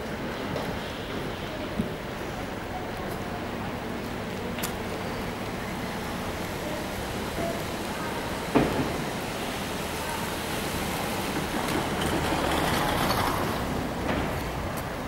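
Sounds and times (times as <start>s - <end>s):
rainy street hiss: 0.0s - 15.0s.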